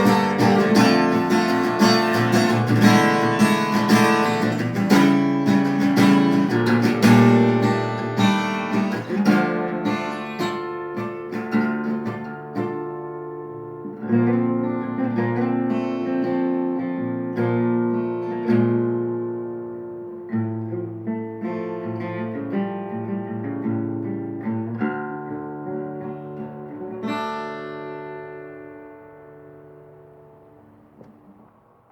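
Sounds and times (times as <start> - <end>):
acoustic guitar chords: 0.0 - 31.9.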